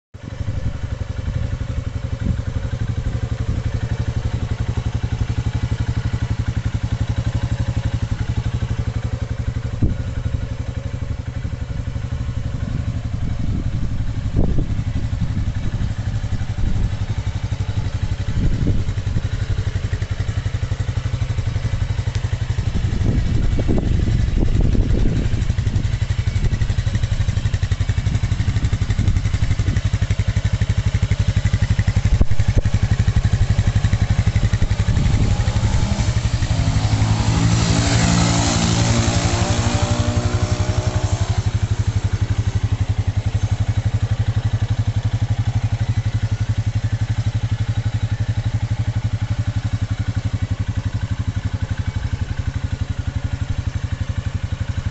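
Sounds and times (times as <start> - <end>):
atv engine running: 0.2 - 54.9.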